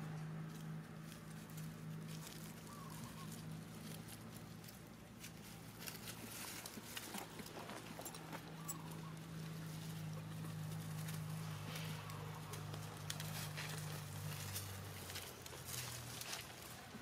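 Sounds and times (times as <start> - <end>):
monkeys scuffling in dry leaves: 0.6 - 17.0.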